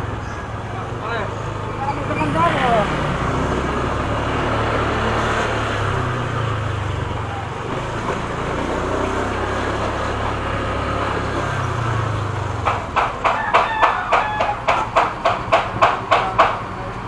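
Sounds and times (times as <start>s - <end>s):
motorcycle engine running: 0.0s - 17.0s
road noise: 0.0s - 17.0s
surrounding traffic: 0.0s - 17.0s.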